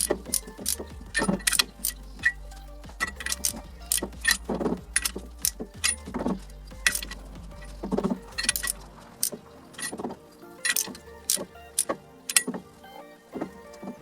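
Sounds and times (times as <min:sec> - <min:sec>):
low hum: 0:00.0 - 0:11.7.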